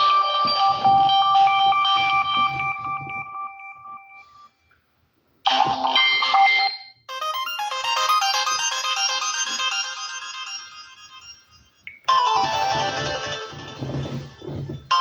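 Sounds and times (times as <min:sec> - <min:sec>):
phone ringtone melody: 0:00.0 - 0:04.6, 0:05.6 - 0:14.2.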